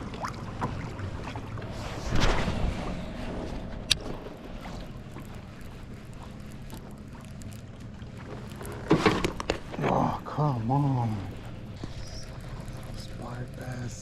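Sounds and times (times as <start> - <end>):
water noise around kayak: 0.0 - 14.0.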